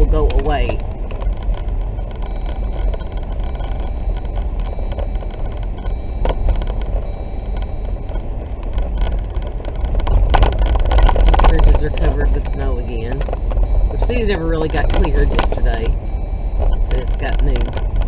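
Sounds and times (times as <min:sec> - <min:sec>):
in-cabin road noise: 0:00.0 - 0:18.0.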